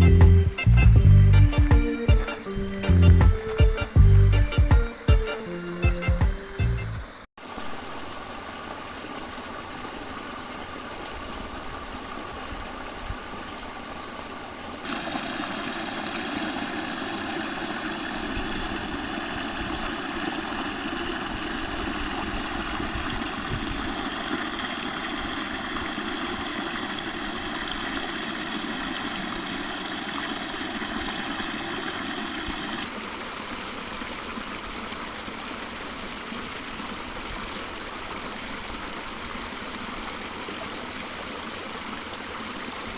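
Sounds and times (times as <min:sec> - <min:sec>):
stream water running over rocks: 0:04.7 - 0:42.9.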